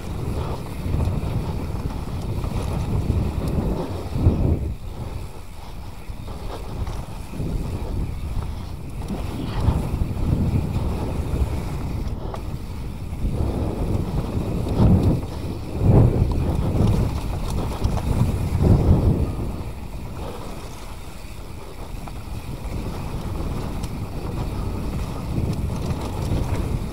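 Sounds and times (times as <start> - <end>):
bike rumbling over dirt: 0.0 - 26.9
wind on camera microphone: 0.0 - 26.9.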